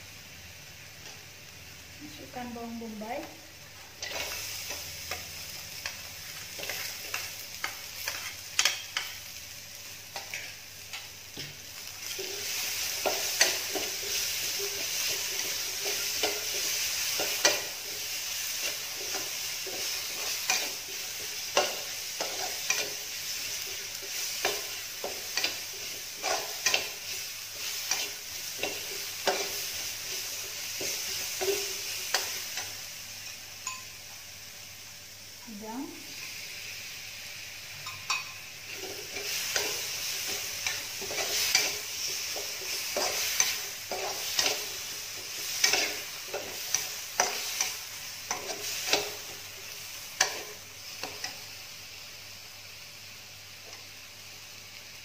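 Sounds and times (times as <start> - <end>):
onion sizzling in hot oil: 0.0 - 55.0.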